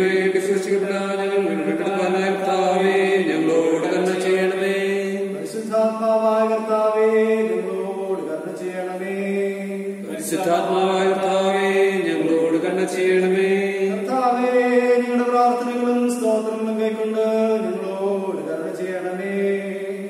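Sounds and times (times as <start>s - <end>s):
slow sung chant: 0.0s - 20.0s.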